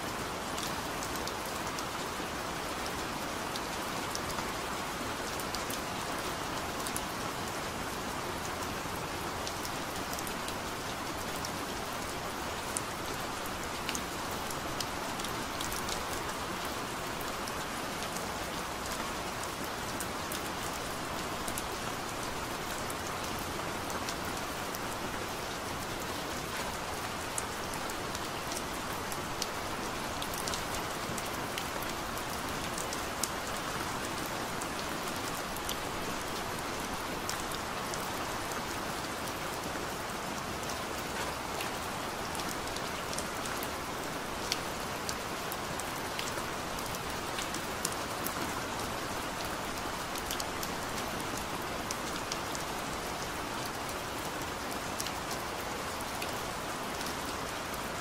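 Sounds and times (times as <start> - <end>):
steady gentle rain: 0.0 - 58.0.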